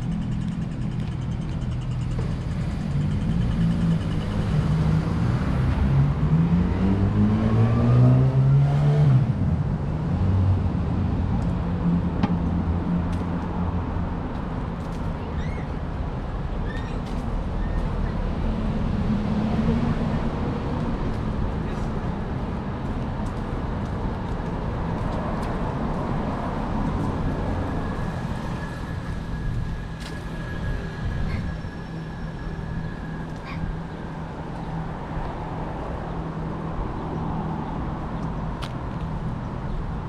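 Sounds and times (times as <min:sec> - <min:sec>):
traffic engine rumble: 0:00.0 - 0:40.0.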